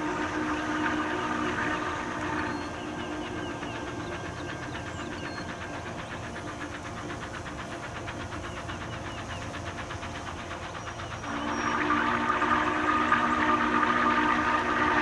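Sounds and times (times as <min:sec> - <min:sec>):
steam locomotive exhaust beats: 0:00.0 - 0:15.0.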